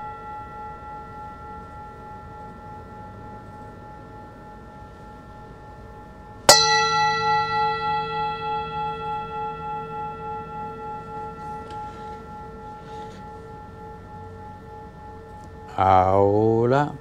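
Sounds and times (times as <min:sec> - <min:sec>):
bell ringing: 0:00.0 - 0:04.4, 0:06.4 - 0:16.8.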